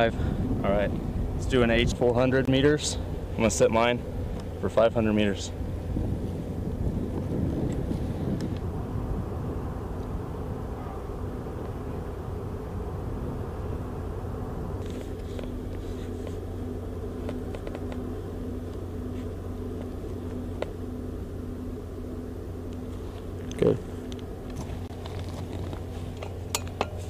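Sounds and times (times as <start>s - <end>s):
faint pulsing tone: 0.0s - 27.0s
steady low hum: 0.0s - 27.0s.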